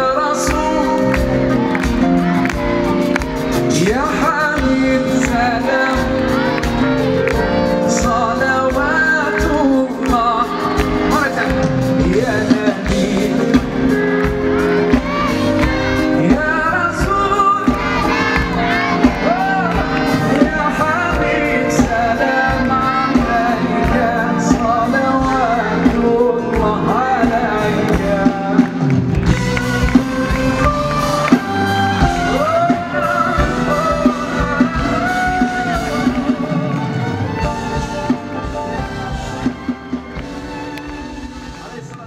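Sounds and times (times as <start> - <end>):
man singing: 0.0 - 2.2, 3.5 - 14.9, 16.0 - 38.6
instrumental backing music: 0.0 - 42.0.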